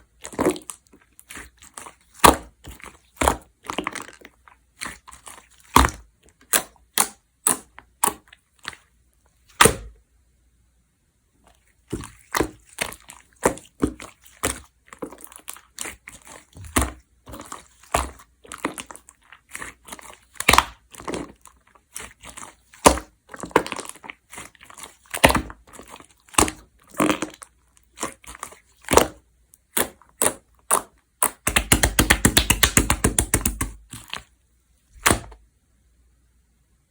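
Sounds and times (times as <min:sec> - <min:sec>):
slime squeezed with sticky pops: 0:00.2 - 0:08.8, 0:11.9 - 0:34.3, 0:35.0 - 0:35.4.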